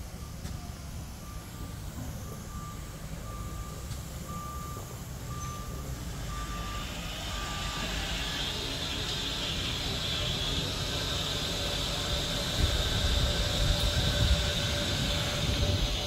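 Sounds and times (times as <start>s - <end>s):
reversing alarm beeping: 0.0s - 16.0s
hiss: 2.9s - 16.0s.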